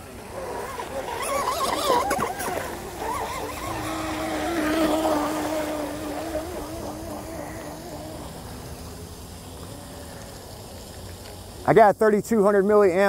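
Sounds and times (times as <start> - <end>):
electric boat motor whining: 0.0 - 11.6.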